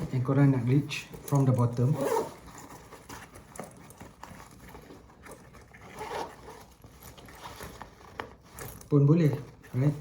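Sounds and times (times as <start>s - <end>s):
backpack rustling: 0.0s - 10.0s
zippers opening: 0.0s - 10.0s.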